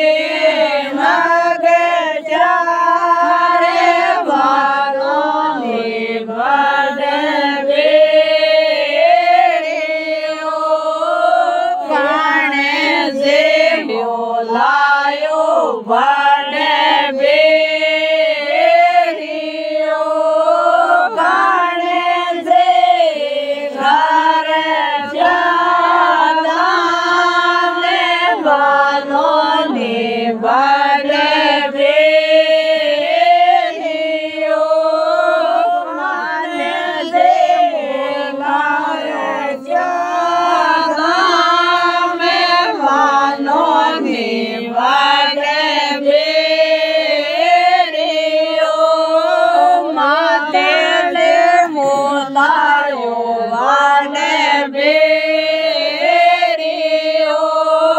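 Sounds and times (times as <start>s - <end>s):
person singing folk song: 0.0s - 57.9s.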